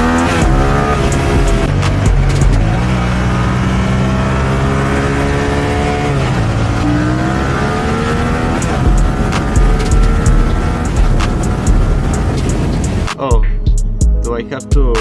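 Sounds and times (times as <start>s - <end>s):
motorcycle engine accelerating: 0.0s - 13.1s.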